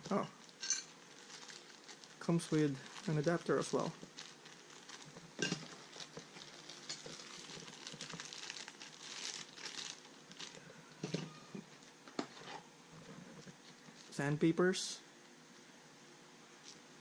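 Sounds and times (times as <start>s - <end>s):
packaging crinkling and rustling: 0.1s - 14.2s.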